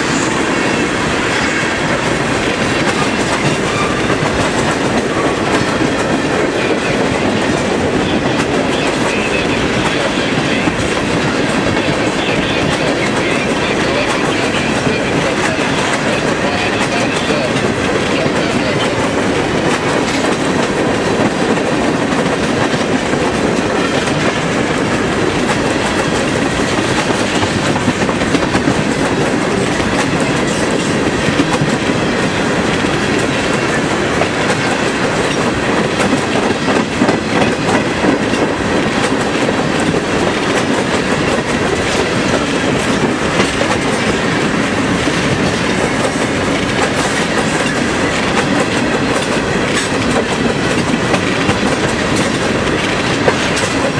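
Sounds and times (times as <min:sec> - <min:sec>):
train wheels clacking over rail joints: 0:00.0 - 0:53.9.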